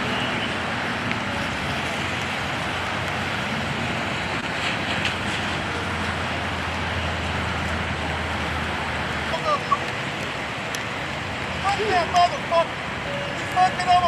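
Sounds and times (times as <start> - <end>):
low engine hum: 0.0 - 13.8
traffic noise: 0.0 - 14.0.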